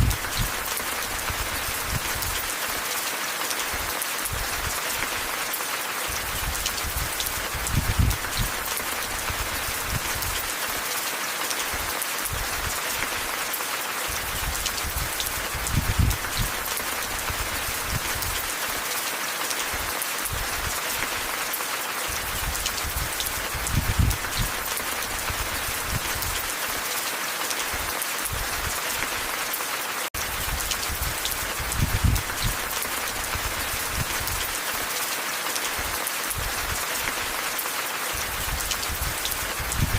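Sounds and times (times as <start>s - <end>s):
rainfall hiss: 0.0s - 39.9s.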